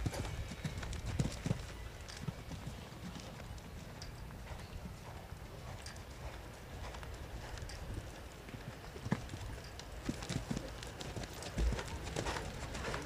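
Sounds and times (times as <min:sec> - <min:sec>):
horse hooves thudding on sand: 0:00.0 - 0:13.0.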